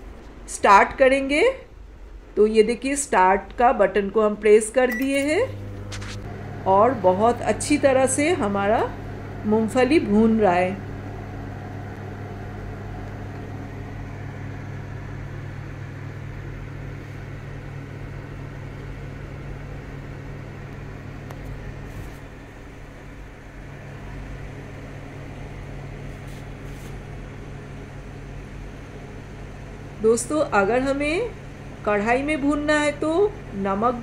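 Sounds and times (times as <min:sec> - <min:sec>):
microwave oven humming: 0:00.0 - 0:34.0.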